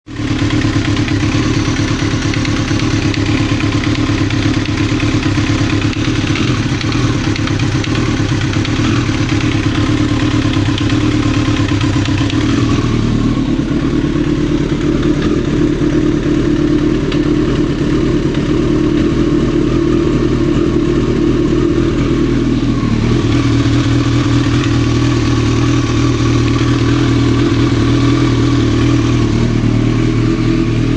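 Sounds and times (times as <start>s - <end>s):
motorcycle engine knocking: 0.1s - 30.9s.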